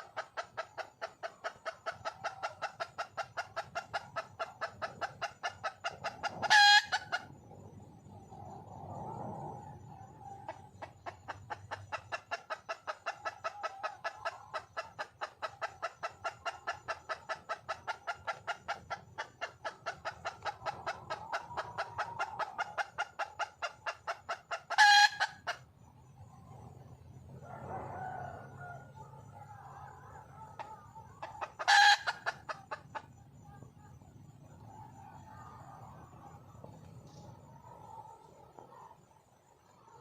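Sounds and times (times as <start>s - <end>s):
hen clucking: 0.0s - 7.6s, 10.2s - 26.5s, 28.9s - 40.0s.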